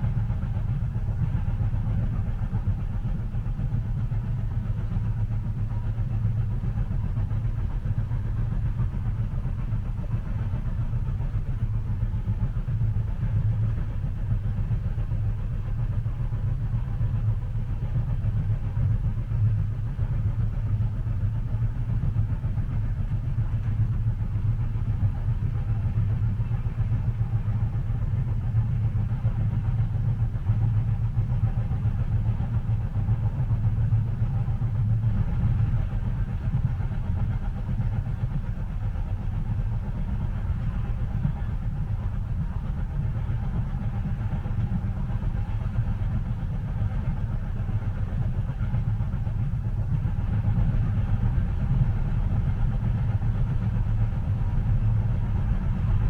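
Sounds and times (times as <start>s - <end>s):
moving train rumble: 0.0s - 56.0s.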